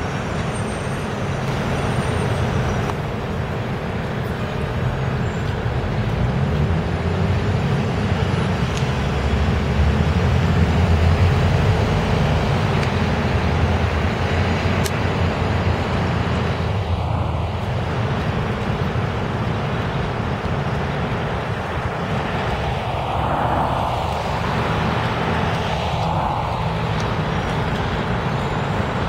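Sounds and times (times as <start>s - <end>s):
bus engine running: 0.0s - 29.0s
city street traffic: 0.0s - 29.0s.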